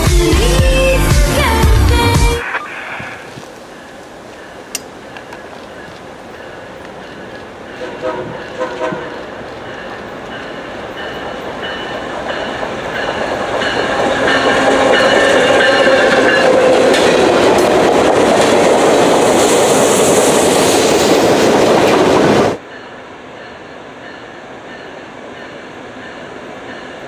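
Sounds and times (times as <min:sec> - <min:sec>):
diesel train passing: 0:00.3 - 0:27.0
distant train approaching: 0:01.4 - 0:27.0.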